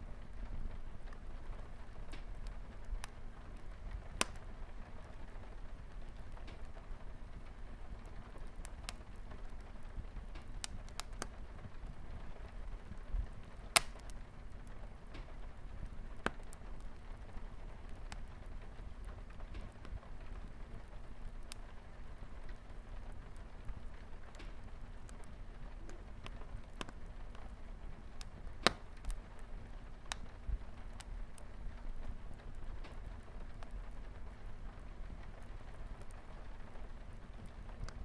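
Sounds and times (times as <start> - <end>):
light rain on a window: 0.0 - 38.0
wood fire crackling and popping: 0.0 - 38.0.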